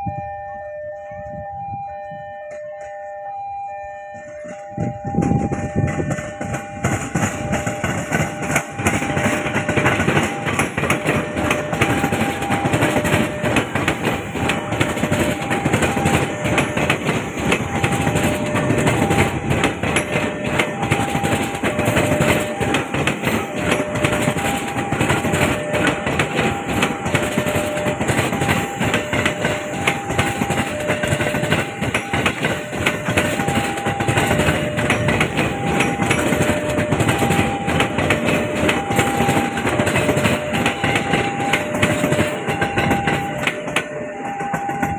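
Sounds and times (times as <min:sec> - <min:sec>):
two-tone crossing alarm: 0:00.0 - 0:44.9
train wheels clattering on rails: 0:04.1 - 0:44.9.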